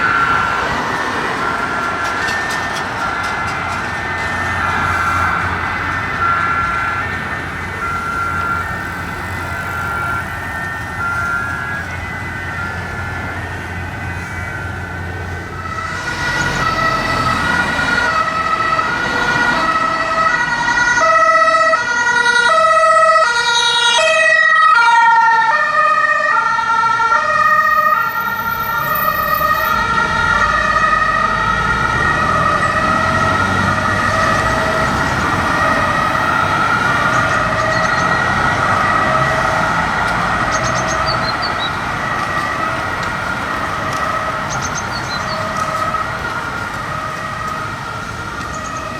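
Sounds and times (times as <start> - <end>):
engine and road noise: 0.0 - 48.9
two-tone emergency sirens: 0.0 - 48.9.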